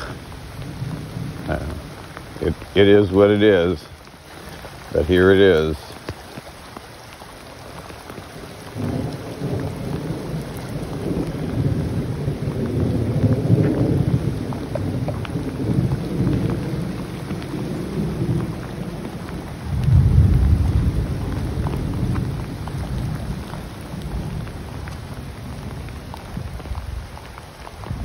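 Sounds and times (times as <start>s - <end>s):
raindrop ticks: 0.0s - 28.0s.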